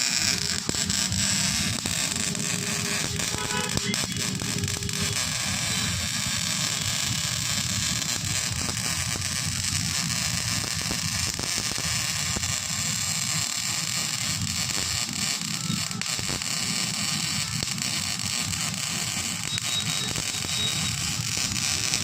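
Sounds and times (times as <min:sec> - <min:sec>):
arc welding crackling hiss: 0:00.0 - 0:22.0.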